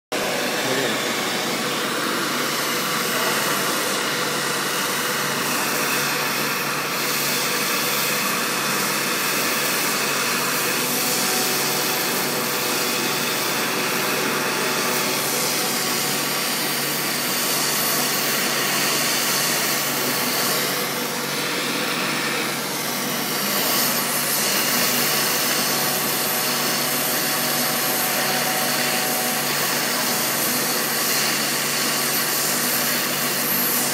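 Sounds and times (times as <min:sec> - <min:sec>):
gas torch flame hissing: 0:00.2 - 0:33.9.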